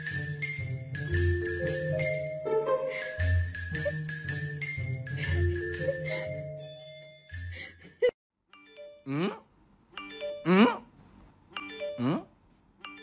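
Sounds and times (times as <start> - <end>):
playful chiming music: 0.0 - 9.4, 10.0 - 10.8, 11.6 - 13.0.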